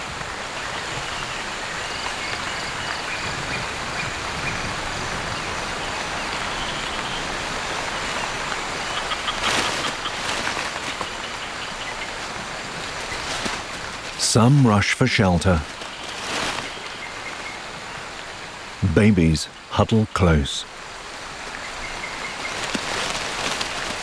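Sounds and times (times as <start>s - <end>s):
heavy rain on foliage: 0.0s - 24.0s.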